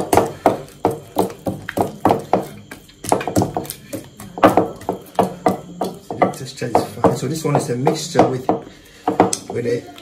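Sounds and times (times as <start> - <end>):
dough thumping against bowl: 0.0 - 9.7.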